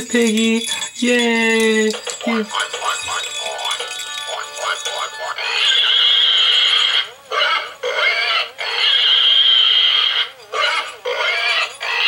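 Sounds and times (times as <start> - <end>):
toy pig noises: 0.0 - 12.0.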